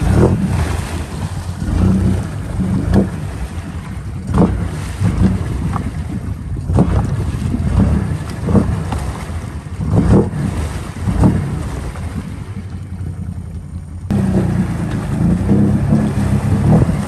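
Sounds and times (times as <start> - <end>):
atv engine revving: 0.0 - 17.0
water churning and splashing: 0.0 - 17.0.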